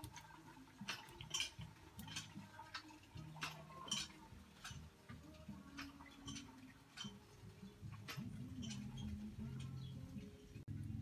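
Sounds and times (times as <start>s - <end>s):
firewood crackling and popping: 0.0s - 10.8s.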